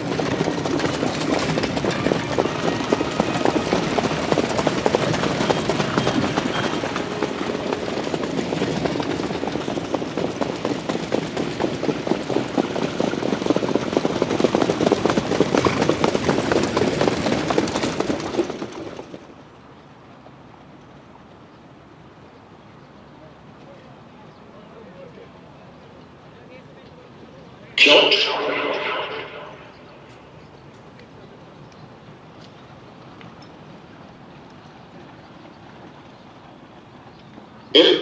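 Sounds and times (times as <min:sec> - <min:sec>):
trotting horse hooves and wheels: 0:00.0 - 0:38.0.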